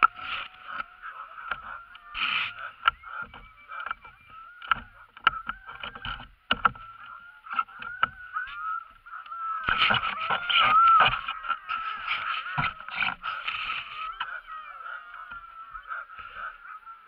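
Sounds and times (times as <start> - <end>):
scattered knocks: 0.0 - 16.6
dogs whining and yelping: 0.0 - 17.0.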